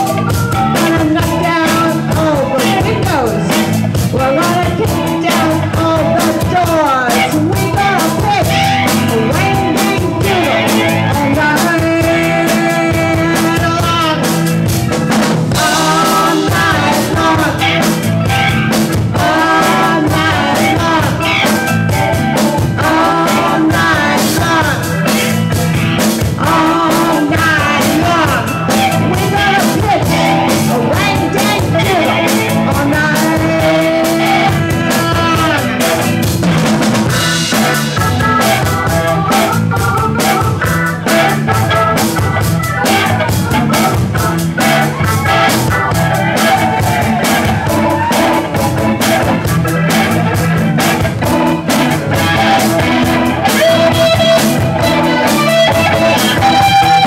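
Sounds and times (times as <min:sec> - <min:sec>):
drum kit: 0:00.0 - 0:57.0
electric guitar with bending notes: 0:00.0 - 0:57.0.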